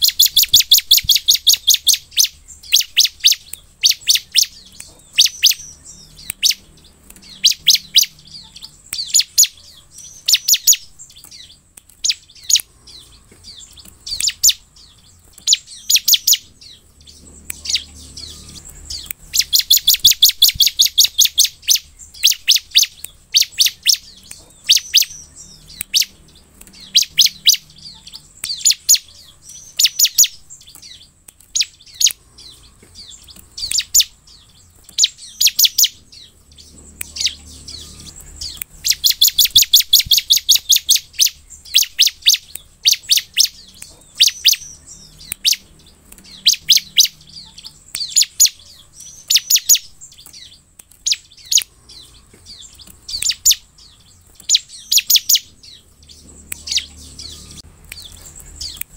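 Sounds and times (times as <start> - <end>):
bird chirping: 0.0 - 58.9.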